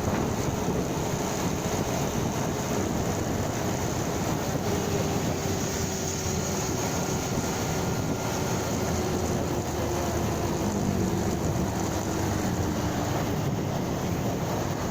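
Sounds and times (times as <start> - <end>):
motorcycle engine rumble: 0.0 - 14.9
wind noise: 0.0 - 14.9.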